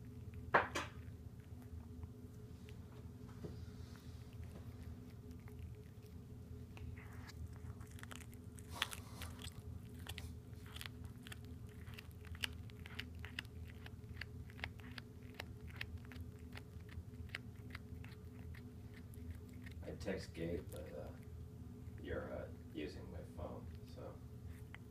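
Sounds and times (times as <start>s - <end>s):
cat chewing and crunching: 0.0s - 24.9s
faint steady hum: 0.0s - 24.9s.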